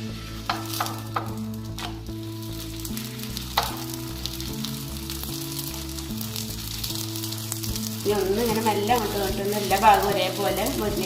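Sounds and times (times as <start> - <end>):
background music with held notes: 0.0 - 11.0
flatbread sizzling in oil: 0.0 - 11.0.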